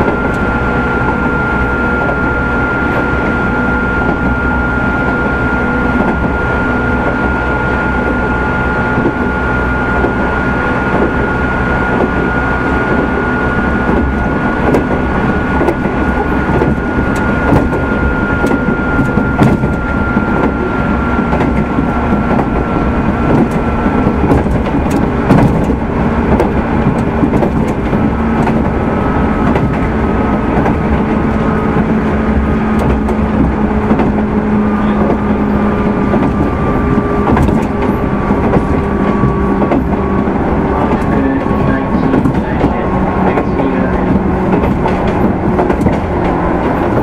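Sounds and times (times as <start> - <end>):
electric train motor whine: 0.0 - 47.0
train wheels rumbling: 0.0 - 47.0
wheels clicking on rails: 0.0 - 47.0.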